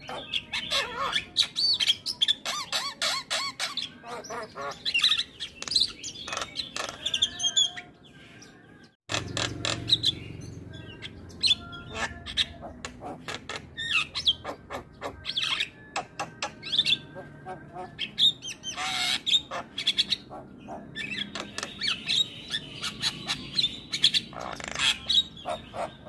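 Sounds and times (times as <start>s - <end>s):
bird singing chirps and whistles: 0.0s - 26.0s.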